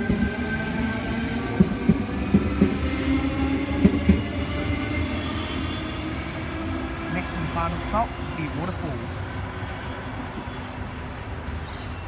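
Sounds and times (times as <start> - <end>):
electric train rumble and whine: 0.0 - 12.0.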